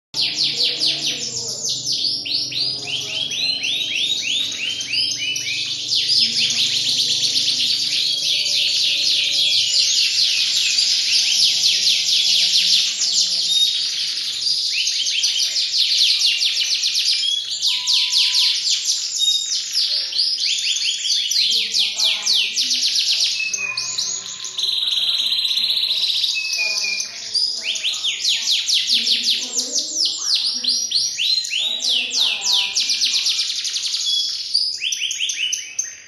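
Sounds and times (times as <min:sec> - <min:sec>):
canary singing trills: 0:00.2 - 0:36.0.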